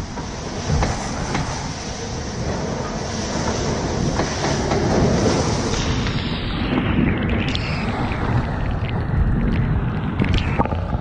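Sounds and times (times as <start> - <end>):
wind rushing: 0.0 - 11.0.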